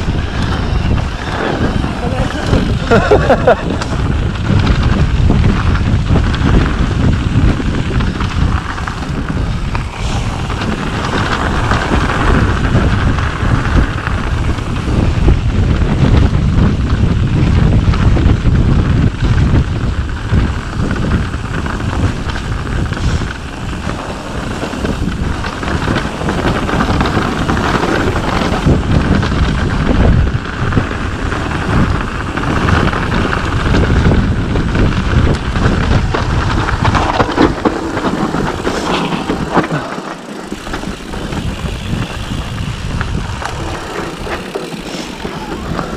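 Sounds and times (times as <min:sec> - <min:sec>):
bike tyres rumbling over dirt: 0:00.0 - 0:45.9
wind noise on microphone: 0:00.0 - 0:45.9.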